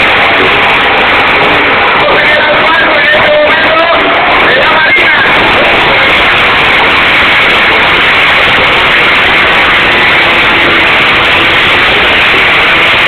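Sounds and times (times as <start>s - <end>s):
two-stroke motorcycle engines: 0.0s - 13.0s.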